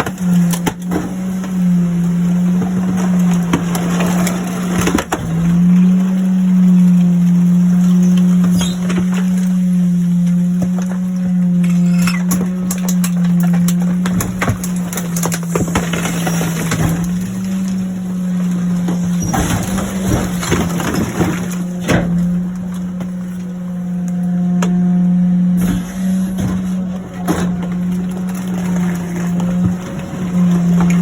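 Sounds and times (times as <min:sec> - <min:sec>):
garbage truck compactor humming: 0:00.0 - 0:31.0.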